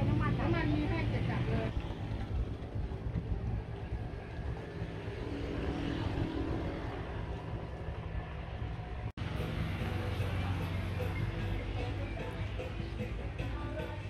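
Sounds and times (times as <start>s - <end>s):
boat engine droning: 0.0s - 13.8s.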